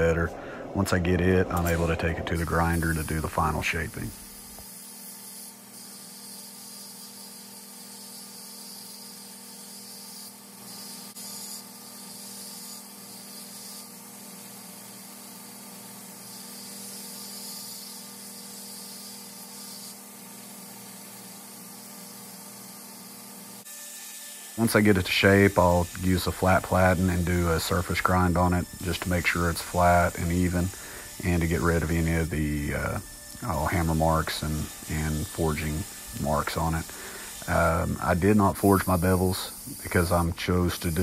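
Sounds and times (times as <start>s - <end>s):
belt grinder hissing: 0.0s - 41.0s.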